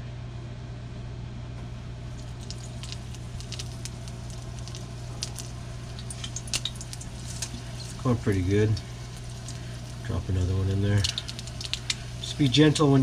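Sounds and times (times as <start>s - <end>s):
low hum: 0.0s - 13.0s
food frying in oil: 1.9s - 13.0s.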